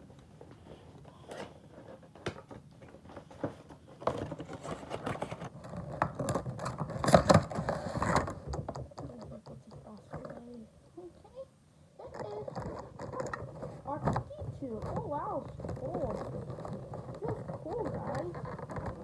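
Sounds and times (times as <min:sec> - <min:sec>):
cardboard and plastic crinkling: 0:00.4 - 0:10.5, 0:12.0 - 0:19.0.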